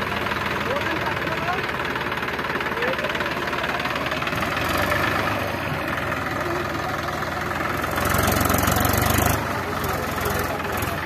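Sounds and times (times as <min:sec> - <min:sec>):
tractor engine revving: 0:00.0 - 0:11.0.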